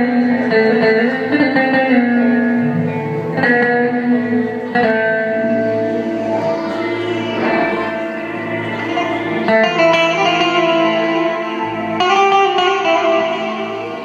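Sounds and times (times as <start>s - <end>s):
amplified plucked string notes: 0.0s - 14.0s.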